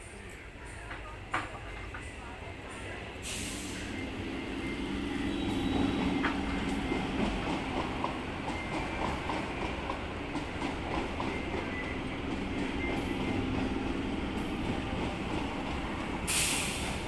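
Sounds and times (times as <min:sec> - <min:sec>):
train low hum: 0:00.0 - 0:17.0
wheels clickety-clack over rail joints: 0:00.2 - 0:03.2, 0:04.1 - 0:17.0.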